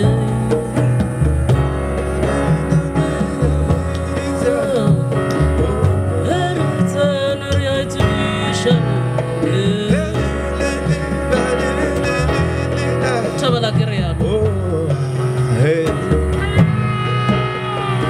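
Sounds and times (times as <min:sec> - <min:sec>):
double bass low notes: 0:00.0 - 0:18.0
piano chords: 0:00.0 - 0:18.0
sliding lead melody: 0:00.0 - 0:18.0.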